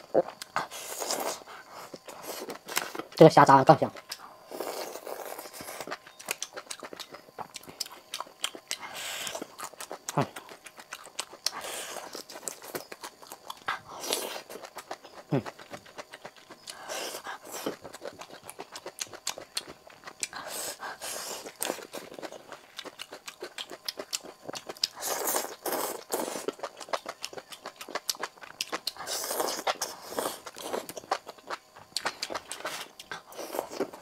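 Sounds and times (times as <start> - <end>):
wet chewing and crunching: 0.0 - 3.2, 3.8 - 34.0.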